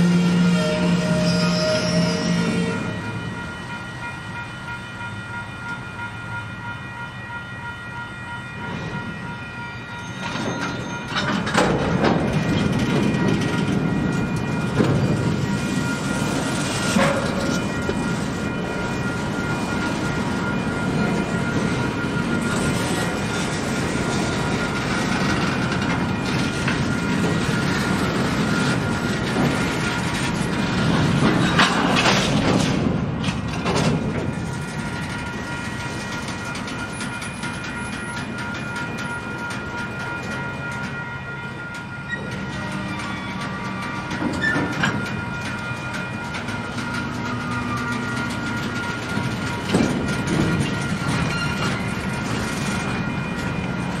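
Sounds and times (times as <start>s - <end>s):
freight train rumbling: 0.0s - 54.0s
wheels clicking over rail joints: 10.1s - 54.0s.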